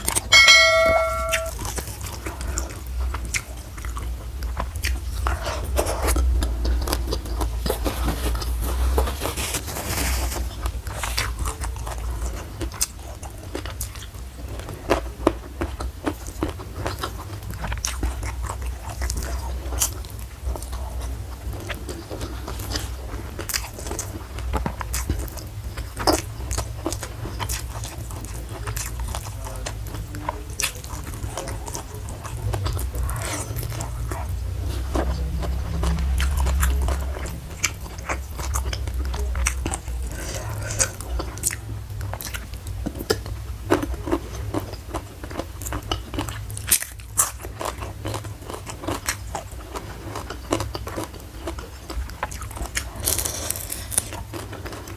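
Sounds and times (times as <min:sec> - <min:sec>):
chewing and crunching food: 0:01.6 - 0:54.9.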